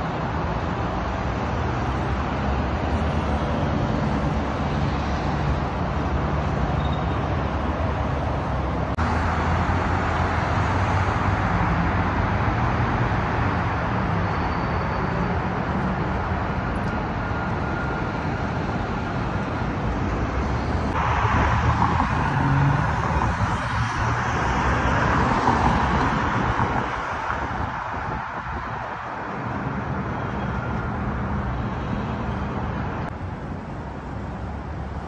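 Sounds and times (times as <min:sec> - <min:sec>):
cars driving past: 0:00.0 - 0:35.0.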